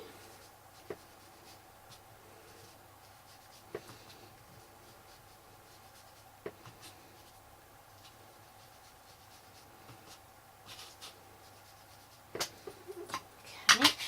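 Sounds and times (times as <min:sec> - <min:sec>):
ink applicator rubbing on paper: 0:00.2 - 0:12.5.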